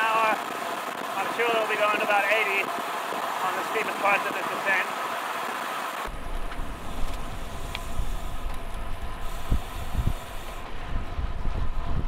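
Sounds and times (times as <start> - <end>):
bicycle tyre noise: 0.0 - 12.0
wind rushing over microphone: 0.0 - 12.0.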